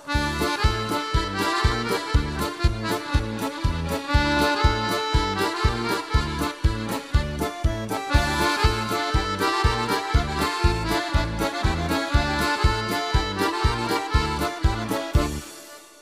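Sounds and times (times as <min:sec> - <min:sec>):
accordion folk tune: 0:00.0 - 0:16.0
bouncing bass and chord beat: 0:00.0 - 0:16.0.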